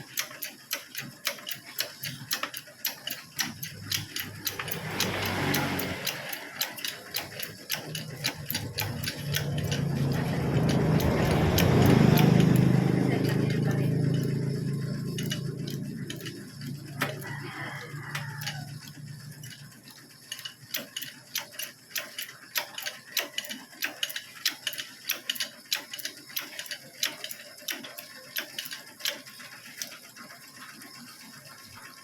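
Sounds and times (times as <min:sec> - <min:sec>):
ratchet wrench clicking: 0:00.0 - 0:19.7, 0:20.3 - 0:30.0.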